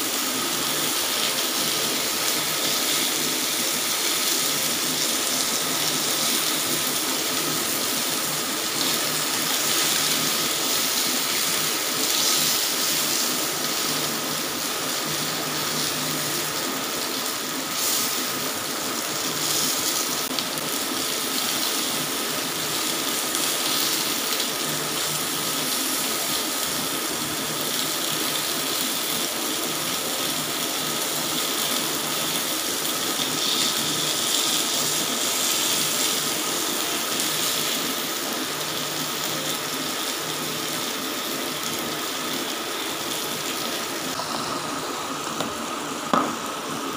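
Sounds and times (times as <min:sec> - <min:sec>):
chicken sizzling in oil: 0:00.0 - 0:46.9.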